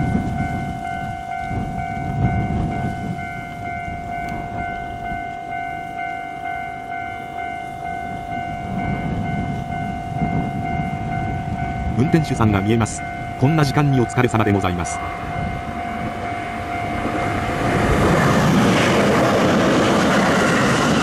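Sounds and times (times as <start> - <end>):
level crossing alarm bell ringing: 0.0 - 18.8
train rumbling on track: 0.0 - 21.0.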